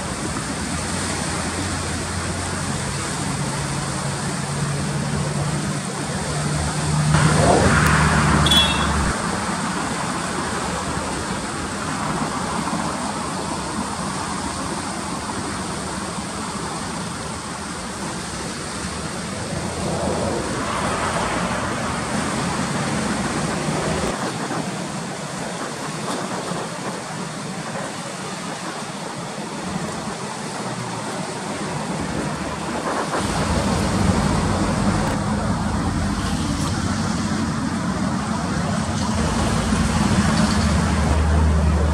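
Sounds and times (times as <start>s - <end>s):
river water rushing over rapids: 0.0s - 41.9s.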